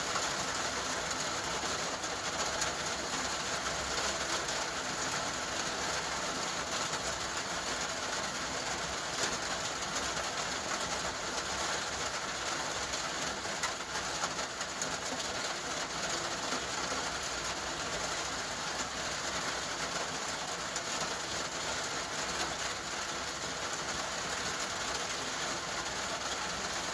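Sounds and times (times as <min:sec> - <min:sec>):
steady rain hiss: 0:00.0 - 0:26.9.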